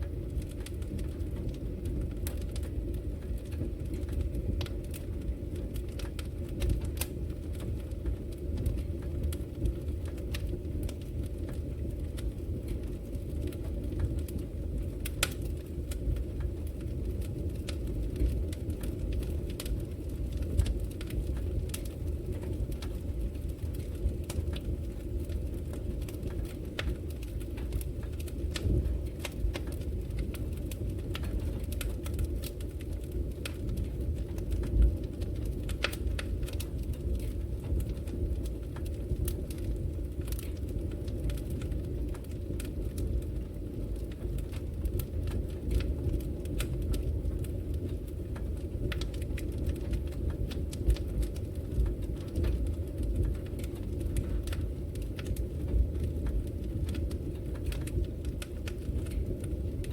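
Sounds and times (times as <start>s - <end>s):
logs burning in fireplace: 0.0s - 59.9s.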